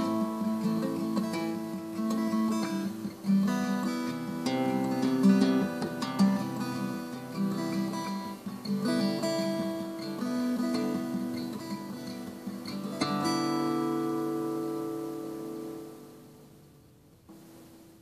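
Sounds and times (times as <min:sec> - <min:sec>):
plucked string music: 0:00.0 - 0:16.5.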